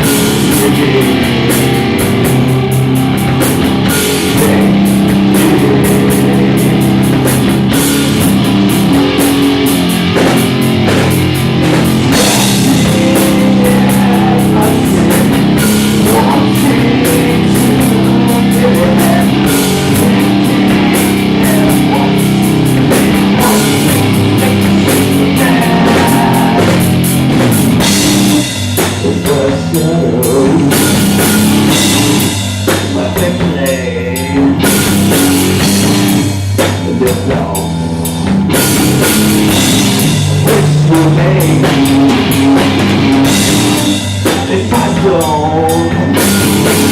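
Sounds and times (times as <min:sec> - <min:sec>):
drum kit: 0:00.0 - 0:46.9
electric guitar: 0:00.0 - 0:46.9
rock band playing: 0:00.0 - 0:46.9.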